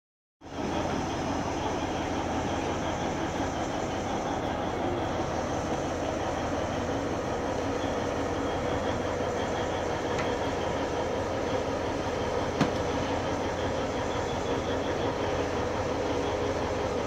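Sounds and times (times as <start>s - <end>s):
diesel locomotive idling: 0.4s - 17.0s.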